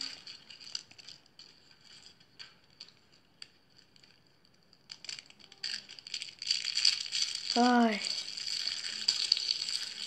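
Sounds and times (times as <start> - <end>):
dry flakes crackling under fingers: 0.0 - 10.0.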